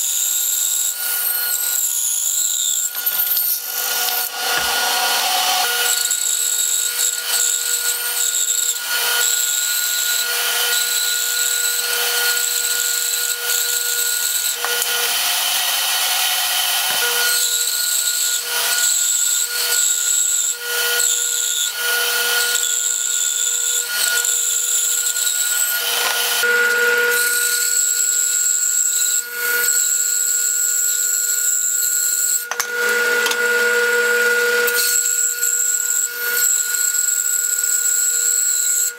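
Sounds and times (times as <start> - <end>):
bandsaw motor hum: 0.0 - 38.9.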